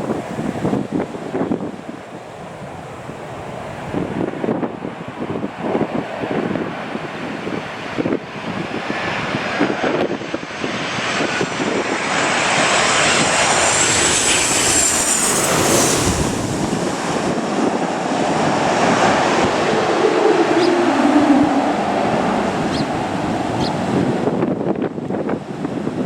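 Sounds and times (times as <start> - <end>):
airliner engines whining: 0.0 - 26.0
wind buffeting microphone: 0.0 - 26.0.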